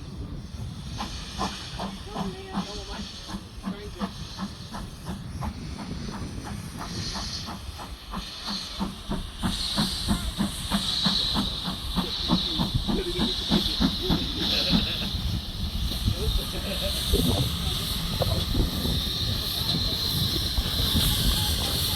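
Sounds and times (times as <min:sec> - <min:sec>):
steam hissing: 0:00.0 - 0:21.9
steam locomotive chuffing: 0:00.0 - 0:21.9.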